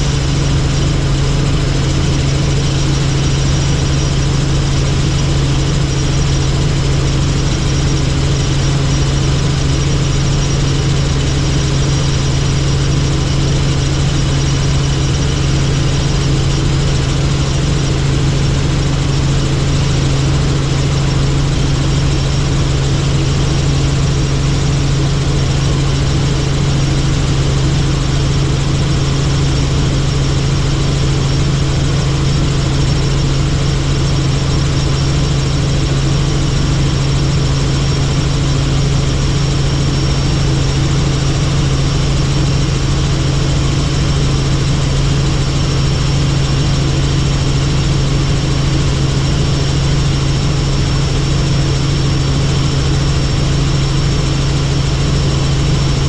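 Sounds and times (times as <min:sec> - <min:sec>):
helicopter engine and rotor hum: 0:00.0 - 0:56.0.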